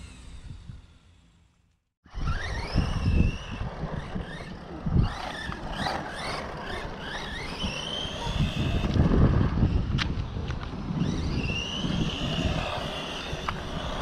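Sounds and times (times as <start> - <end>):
electric motor whining: 0.0 - 14.0
wind rumble on microphone: 2.1 - 14.0.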